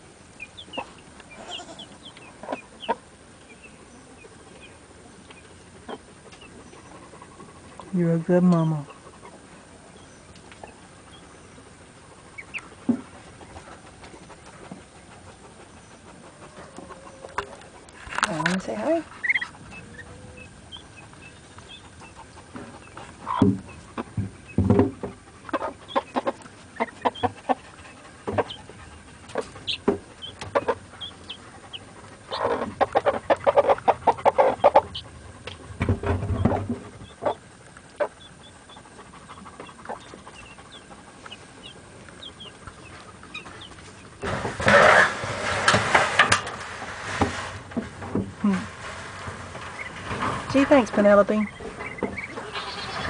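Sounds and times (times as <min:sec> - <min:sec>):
hen clucking: 0:00.3 - 0:09.7, 0:10.3 - 0:44.8, 0:48.5 - 0:53.0
ducklings and keets peeping: 0:00.3 - 0:17.8, 0:18.4 - 0:24.8, 0:25.4 - 0:44.8, 0:49.6 - 0:53.0.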